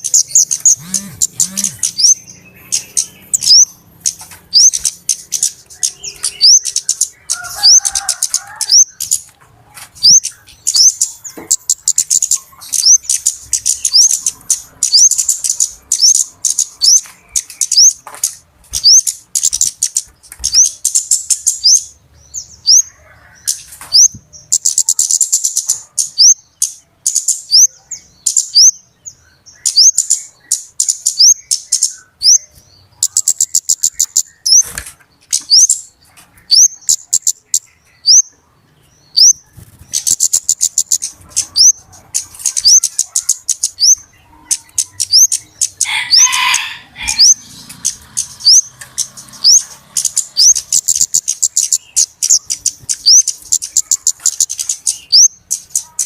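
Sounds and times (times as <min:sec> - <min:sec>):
bird calls high-pitched chips: 0:00.0 - 0:38.4, 0:39.0 - 0:56.0.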